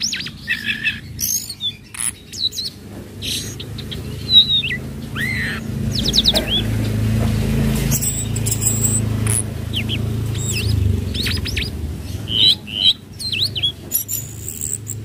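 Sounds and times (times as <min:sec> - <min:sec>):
bird whistling and chirping: 0:00.0 - 0:06.8, 0:07.9 - 0:15.0.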